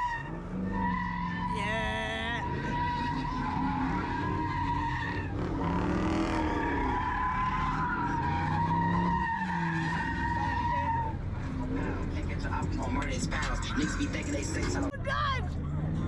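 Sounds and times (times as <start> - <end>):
car tyres squealing: 0.0 - 1.6, 2.2 - 15.0
car engine rising and falling: 0.0 - 14.9.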